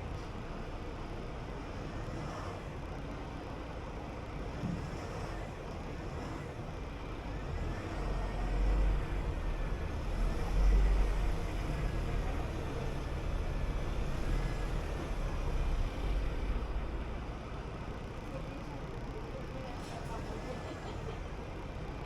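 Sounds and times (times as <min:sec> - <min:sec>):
bus engine rumble: 0:00.0 - 0:22.0
road noise: 0:00.0 - 0:22.0.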